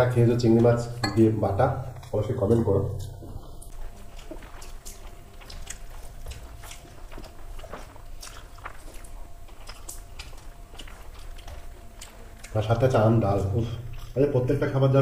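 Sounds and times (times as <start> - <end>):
fingers mixing rice on plates: 0.2 - 14.4
close-up chewing: 1.8 - 15.0.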